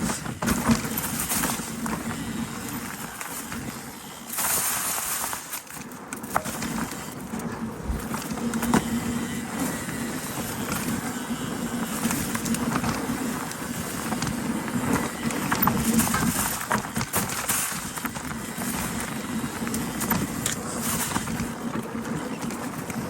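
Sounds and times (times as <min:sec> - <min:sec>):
knocks and clicks from bike: 0:00.0 - 0:03.8, 0:04.4 - 0:23.0
bike tyres rolling on trail: 0:00.0 - 0:23.0.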